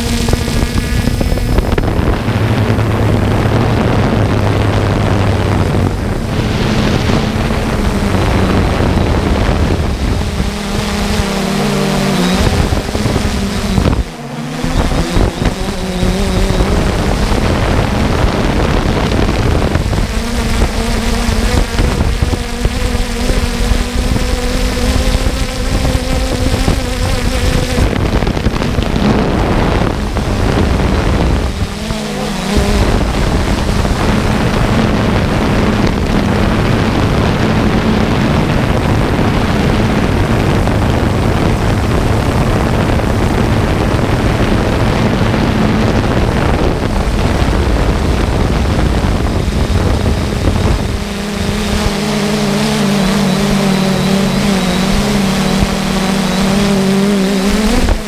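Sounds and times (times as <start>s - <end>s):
drone motors whining: 0.0s - 58.0s
wind on microphone: 0.0s - 58.0s.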